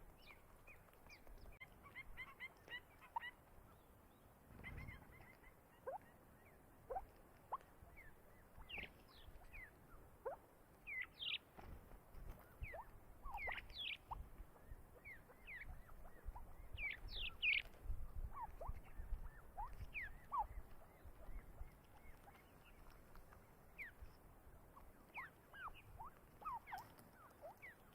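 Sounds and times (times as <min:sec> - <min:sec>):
bird chirping: 0:00.0 - 0:11.5, 0:12.4 - 0:27.9.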